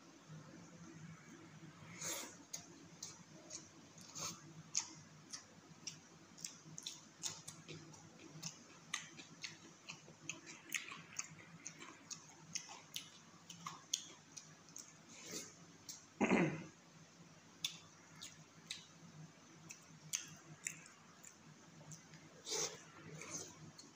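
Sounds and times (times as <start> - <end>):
person chewing with wet smacks: 2.4 - 16.2, 17.6 - 23.9.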